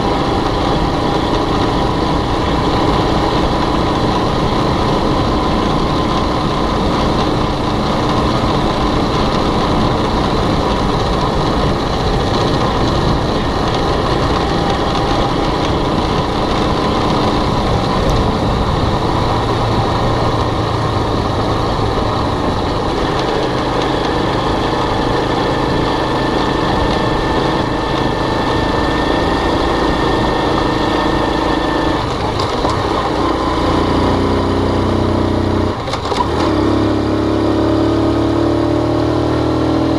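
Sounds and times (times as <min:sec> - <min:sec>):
constant rushing noise: 0:00.0 - 0:39.9
motorbike engine running: 0:00.0 - 0:39.9.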